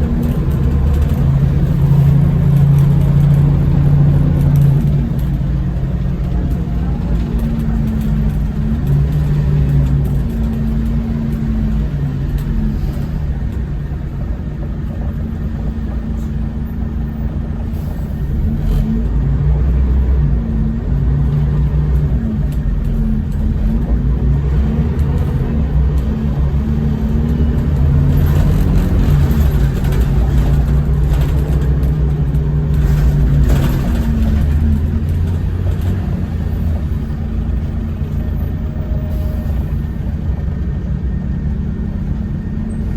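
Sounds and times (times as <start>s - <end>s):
bus diesel engine accelerating: 0.0s - 42.9s.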